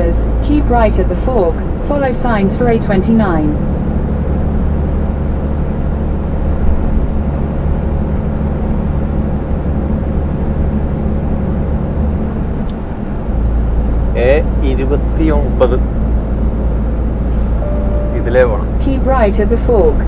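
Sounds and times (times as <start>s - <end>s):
road noise: 0.0s - 20.0s
truck diesel engine drone: 0.0s - 20.0s.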